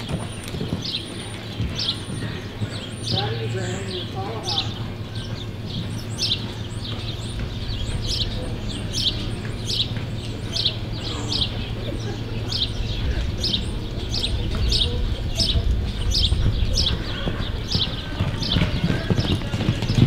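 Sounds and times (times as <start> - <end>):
low rumble of arena noise: 0.0 - 20.0.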